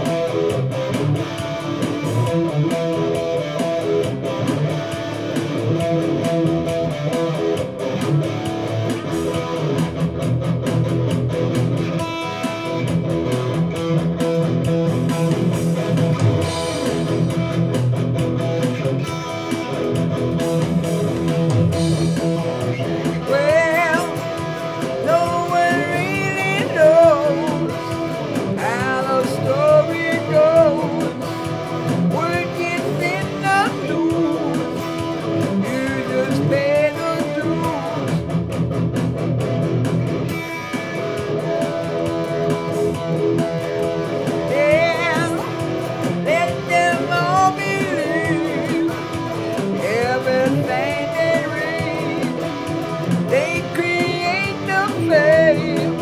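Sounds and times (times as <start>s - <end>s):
drum machine beat: 0.0s - 56.0s
electric guitar lead line: 0.0s - 56.0s
strummed guitar chords: 0.0s - 56.0s.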